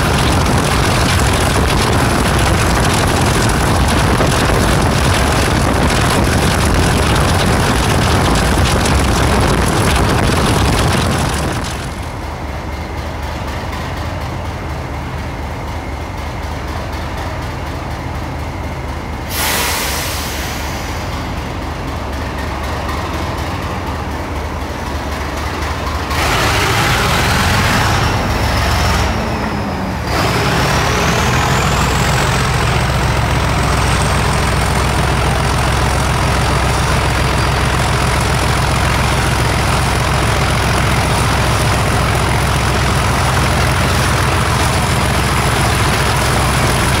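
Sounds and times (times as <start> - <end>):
diesel locomotive engine running: 0.0 - 47.0.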